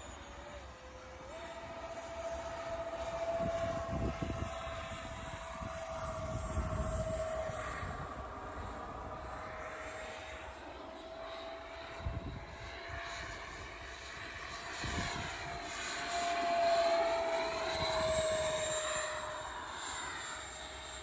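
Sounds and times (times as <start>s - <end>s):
electric ducted fans whining: 0.0s - 21.0s.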